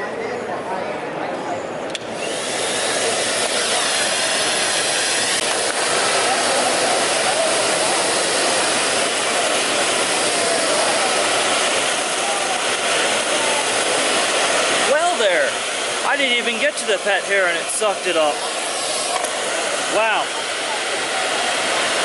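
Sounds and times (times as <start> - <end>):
canister vacuum running: 1.9 - 22.0.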